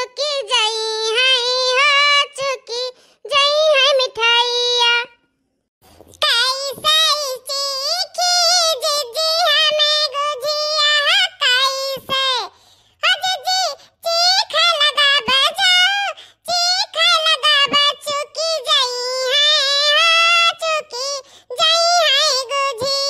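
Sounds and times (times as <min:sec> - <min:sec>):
high cartoon voice sing-song: 0:00.0 - 0:05.2, 0:06.1 - 0:23.0.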